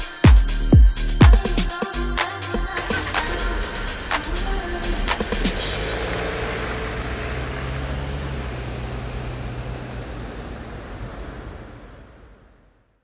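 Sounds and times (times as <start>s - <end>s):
car engine hum: 0.0s - 13.0s
road noise: 1.4s - 13.0s.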